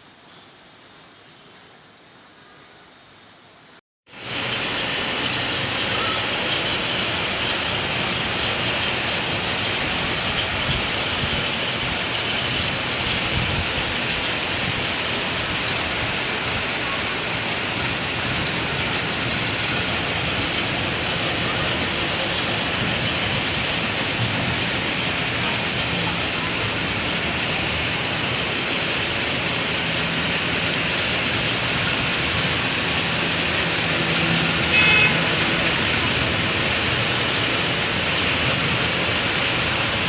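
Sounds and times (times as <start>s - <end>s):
rain falling: 4.1s - 40.0s.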